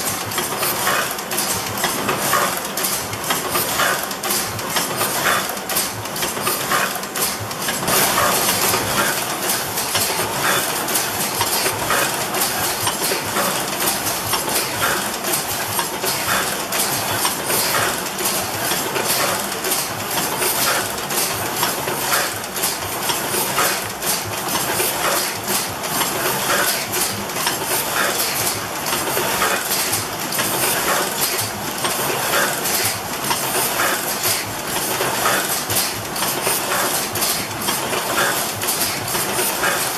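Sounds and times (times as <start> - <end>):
printing presses clattering: 0.0 - 39.9
repeating press clack: 0.0 - 39.9.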